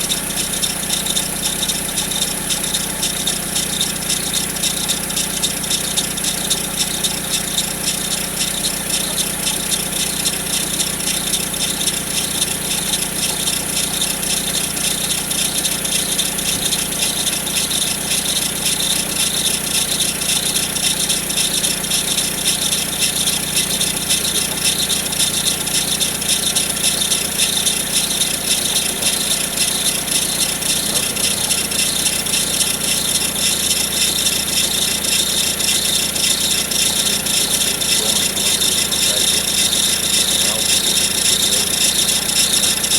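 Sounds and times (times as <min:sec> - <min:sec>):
car engine humming: 0:00.0 - 0:42.9
fast steady engine rattle: 0:00.0 - 0:42.9.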